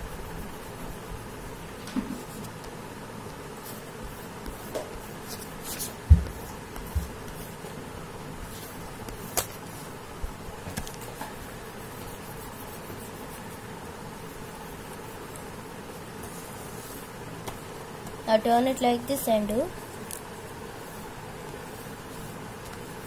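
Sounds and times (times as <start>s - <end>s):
steady low hiss: 0.0s - 23.0s.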